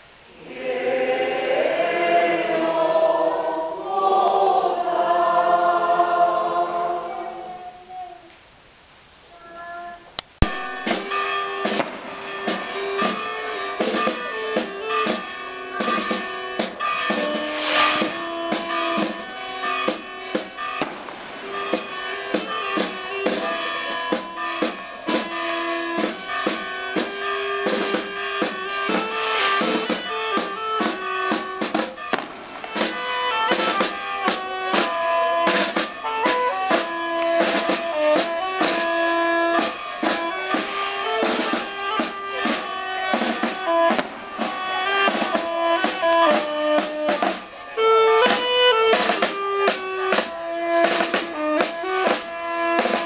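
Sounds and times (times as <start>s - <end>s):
saxophone melody: 9.4s - 53.0s
snare and bass drum beat: 10.4s - 53.0s.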